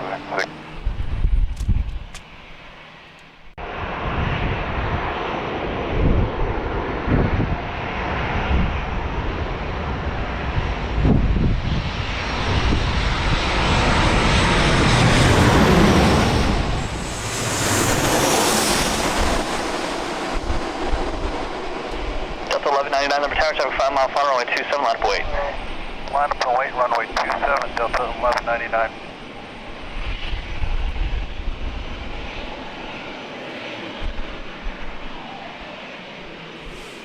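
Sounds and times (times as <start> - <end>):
jet engines passing close: 0.0 - 37.0.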